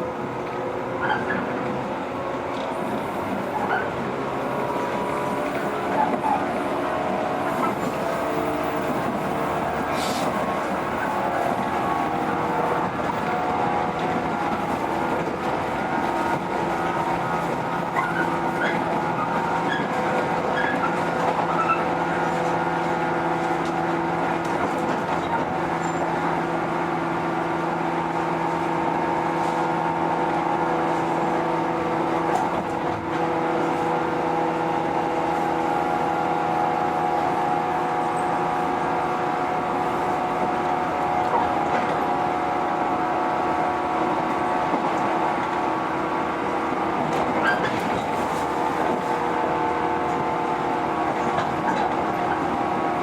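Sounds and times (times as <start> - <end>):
train motor drone and whine: 0.0 - 53.0.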